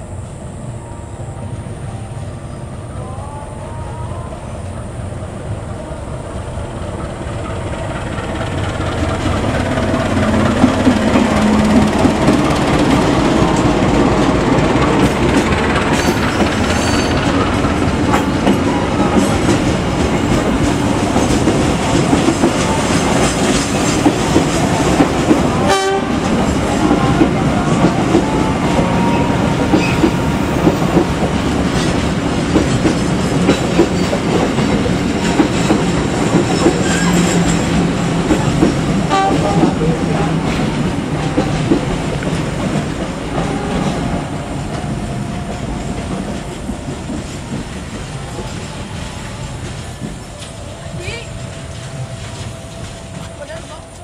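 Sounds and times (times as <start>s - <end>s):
locomotive engine: 0.0s - 54.0s.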